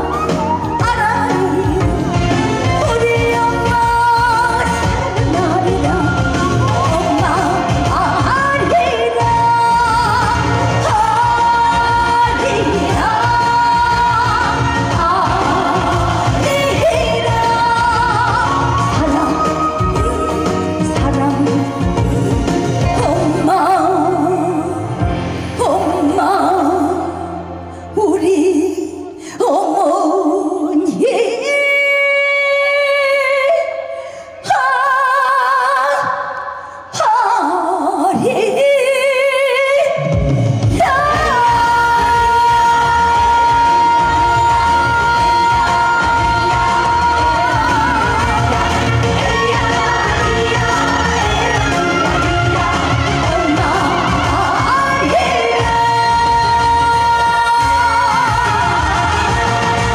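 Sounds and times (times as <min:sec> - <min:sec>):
musical accompaniment: 0:00.0 - 0:29.9, 0:38.1 - 0:59.9
woman singing: 0:00.0 - 0:59.9.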